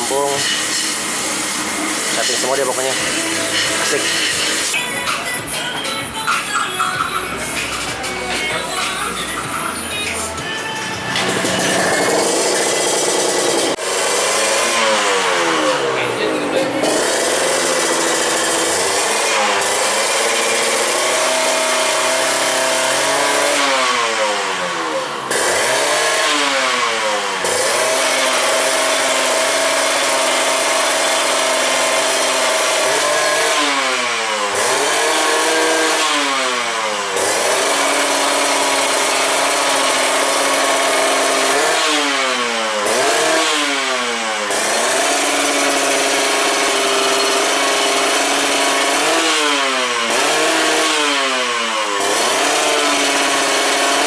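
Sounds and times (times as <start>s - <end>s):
motorcycle engine idling and revving: 0.0s - 4.8s, 9.3s - 54.0s.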